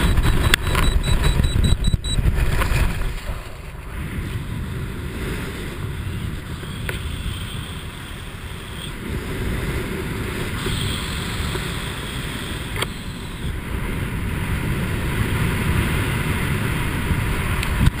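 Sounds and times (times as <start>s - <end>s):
wind buffeting the microphone: 0.0s - 18.0s.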